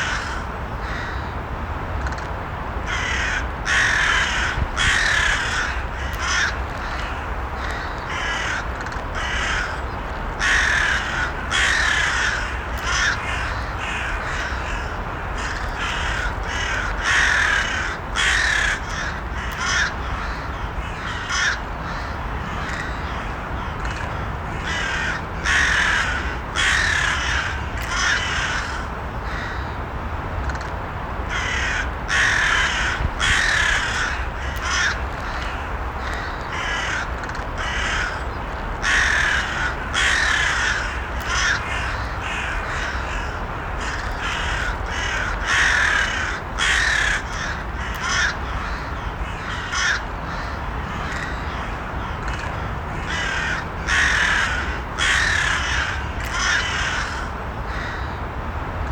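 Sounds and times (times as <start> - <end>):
crows cawing: 0.0 - 1.3, 2.9 - 29.8, 31.3 - 58.2
low background noise: 0.0 - 58.9.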